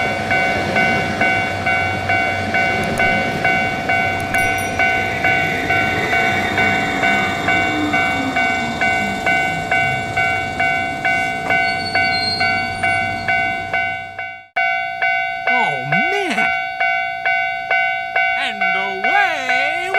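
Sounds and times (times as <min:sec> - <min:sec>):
level-crossing warning bell: 0:00.0 - 0:19.9
passing train: 0:00.0 - 0:19.9.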